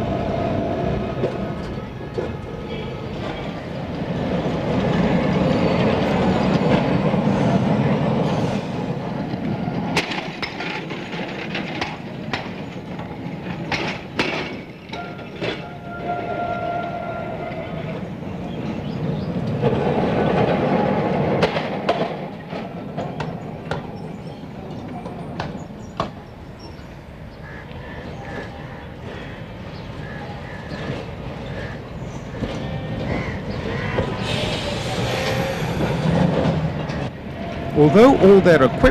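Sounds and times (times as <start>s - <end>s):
tram wheels clicking on rail joints: 0.0s - 38.9s.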